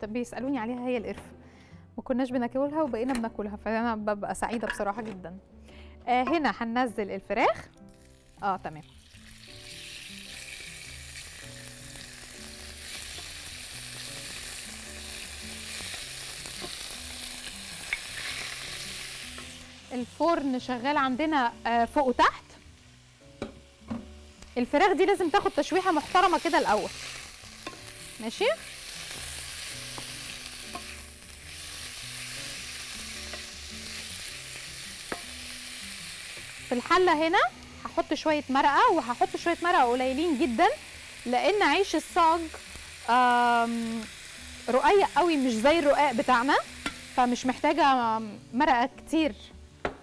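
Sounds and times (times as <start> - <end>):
chicken sizzling in oil: 7.9 - 48.9.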